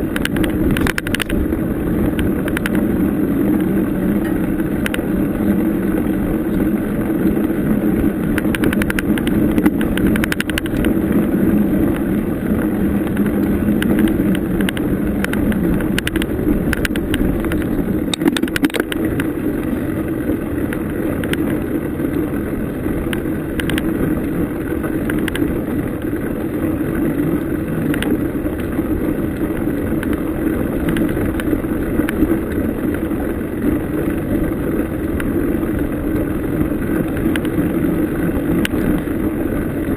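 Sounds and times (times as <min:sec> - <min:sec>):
bicycle rattling over bumps: 0:00.0 - 0:39.9
bicycle rumbling: 0:00.0 - 0:39.9.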